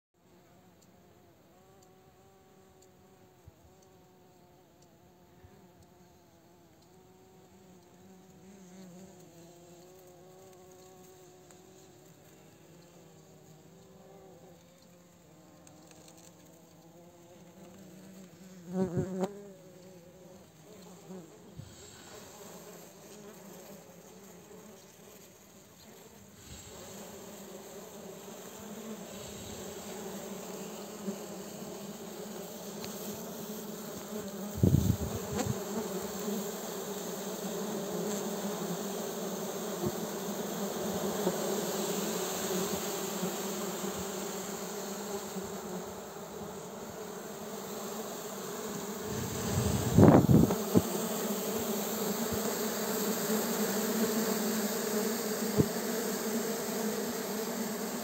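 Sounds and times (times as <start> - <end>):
bees buzzing: 1.6 - 58.0.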